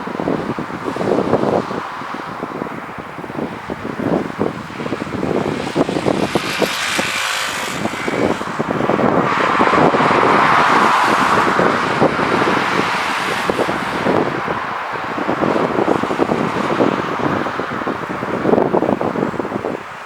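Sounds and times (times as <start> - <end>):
jet airliner engine noise: 0.0 - 20.0
wind buffeting microphone: 0.0 - 20.0.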